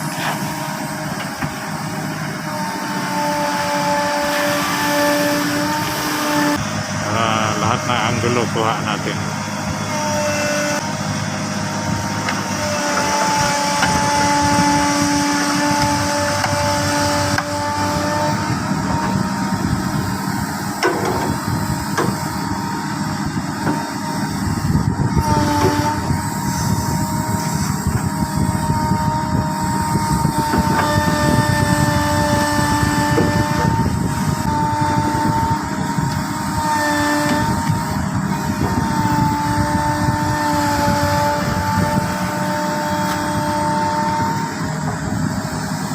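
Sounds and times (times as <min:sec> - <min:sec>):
continuous whine: 0:00.0 - 0:45.9
diesel engine rumbling: 0:00.0 - 0:45.9.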